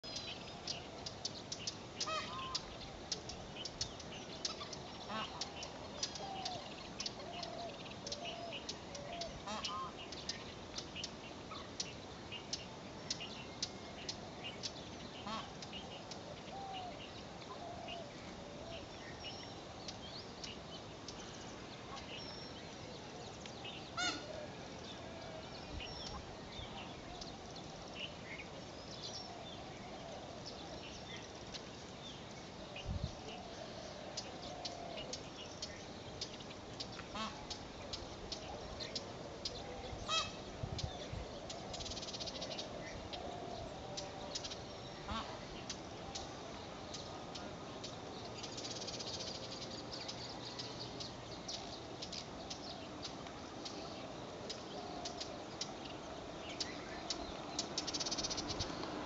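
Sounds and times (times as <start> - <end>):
birds chirping: 0.0 - 59.0
lower bird calls: 0.0 - 59.0.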